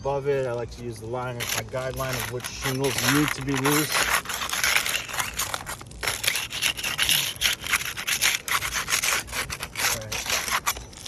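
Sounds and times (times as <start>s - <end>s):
roof shingles scraping: 1.1s - 11.0s.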